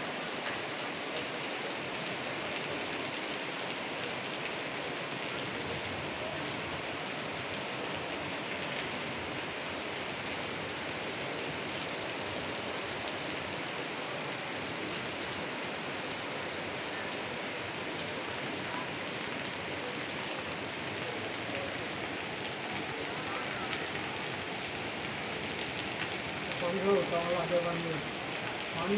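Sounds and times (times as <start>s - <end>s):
heavy rain: 0.0s - 28.9s
river torrent rushing: 0.0s - 28.9s.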